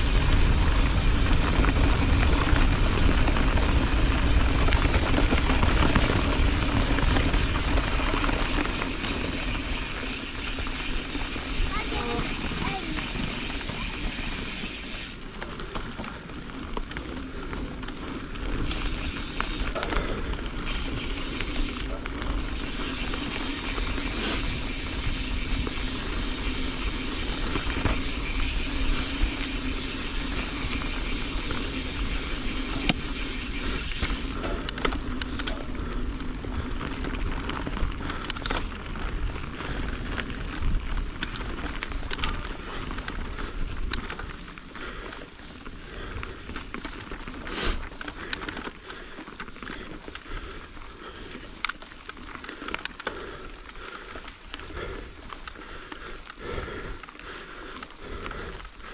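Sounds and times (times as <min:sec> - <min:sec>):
wind rumbling on microphone: 0:00.0 - 0:49.1
bike clicks and rattles: 0:00.0 - 0:58.9
bike tyres on gravel: 0:00.0 - 0:58.9.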